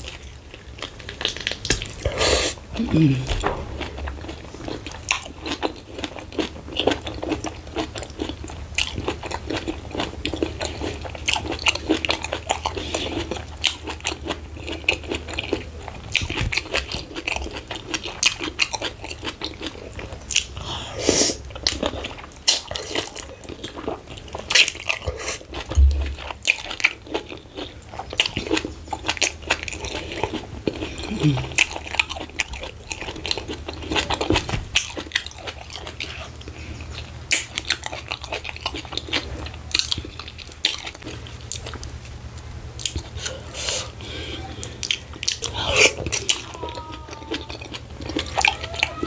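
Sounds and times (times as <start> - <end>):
close chewing: 0.0 - 49.0.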